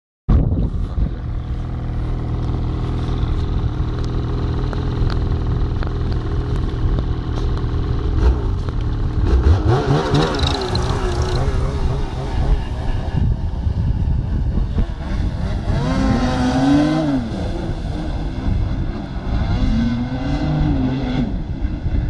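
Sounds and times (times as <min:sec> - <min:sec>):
snowmobile engine running: 0:00.6 - 0:20.2.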